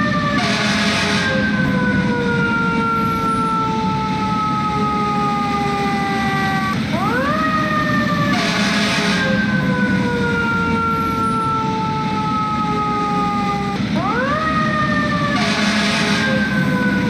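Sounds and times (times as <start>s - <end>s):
fire engine siren wailing: 0.0s - 17.0s
truck and traffic rumble: 0.0s - 17.0s.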